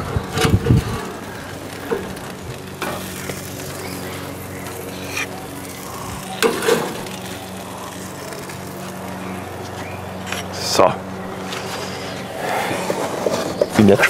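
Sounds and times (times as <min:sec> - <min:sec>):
meat sizzling on a grill: 0:00.2 - 0:12.2.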